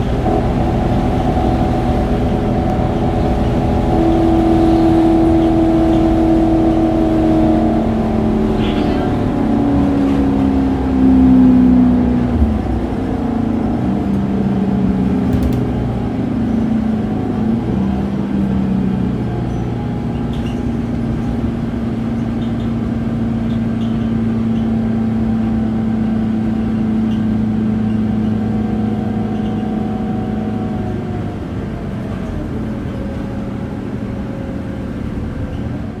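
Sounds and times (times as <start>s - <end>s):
bus diesel engine running: 0.0s - 36.0s
road noise: 0.0s - 36.0s.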